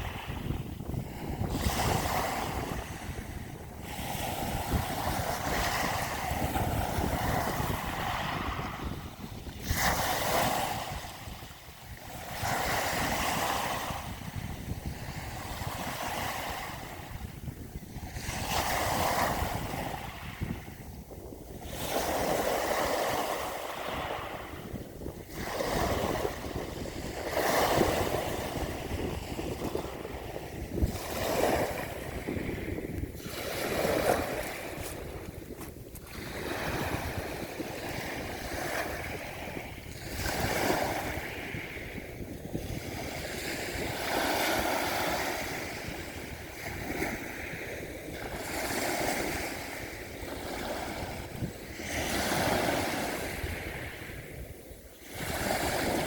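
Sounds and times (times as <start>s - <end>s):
ocean waves breaking: 0.0s - 56.0s
wind rumbling on microphone: 0.0s - 56.0s.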